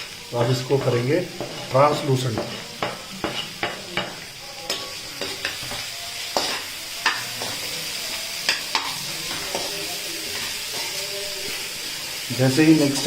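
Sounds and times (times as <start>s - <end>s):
onions sizzling in oil: 0.0s - 13.0s
spoon knocking and scraping pan: 0.5s - 7.8s, 8.4s - 13.0s.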